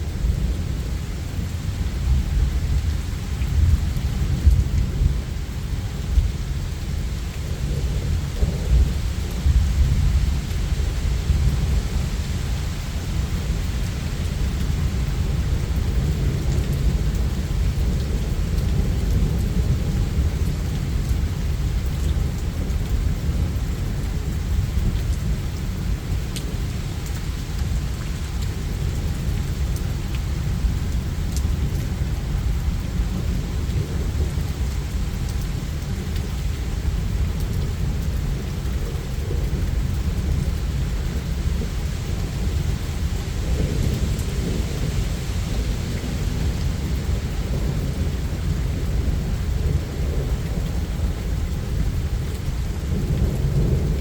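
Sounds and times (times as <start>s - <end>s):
low rumbling thunder: 0.0s - 54.0s
steady rain: 0.0s - 54.0s.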